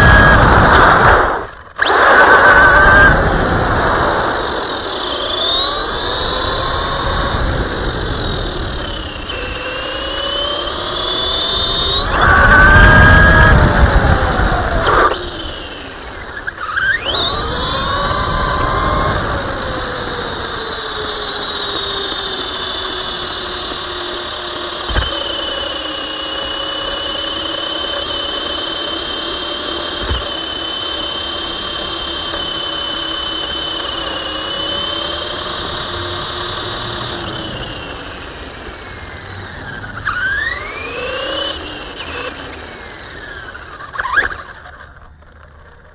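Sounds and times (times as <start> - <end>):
rc car motor whining: 0.0 - 45.9.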